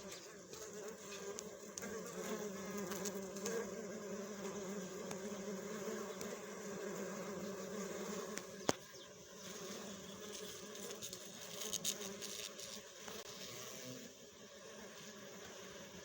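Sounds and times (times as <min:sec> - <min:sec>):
bee buzzing: 0:00.0 - 0:16.0.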